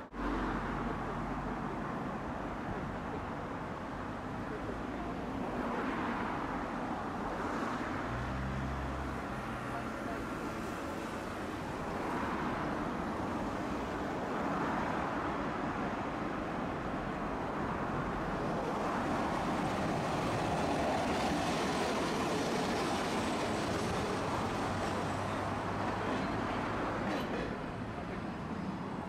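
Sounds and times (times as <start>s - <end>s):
streetcar rumbling on rails: 0.0s - 29.0s.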